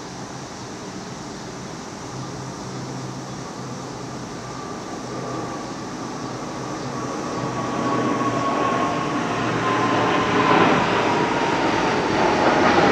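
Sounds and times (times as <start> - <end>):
high jet whine: 0.0 - 12.9
jet roar: 2.0 - 12.9.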